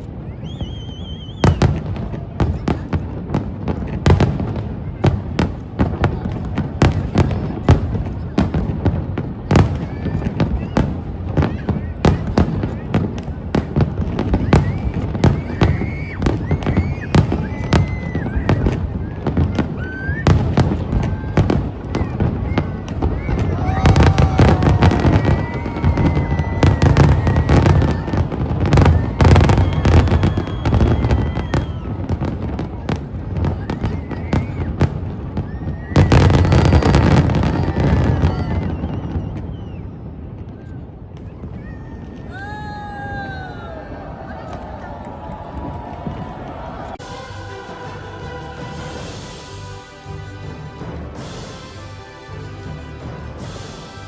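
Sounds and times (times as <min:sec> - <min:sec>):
low rumble of explosions: 0:00.0 - 0:47.0
firework bursts: 0:00.0 - 0:49.8
fireworks crackling: 0:00.0 - 0:54.0.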